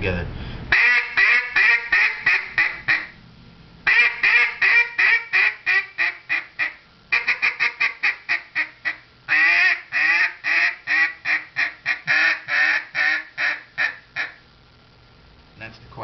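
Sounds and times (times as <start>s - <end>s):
duck call quacks: 0.7s - 3.2s, 3.9s - 14.4s.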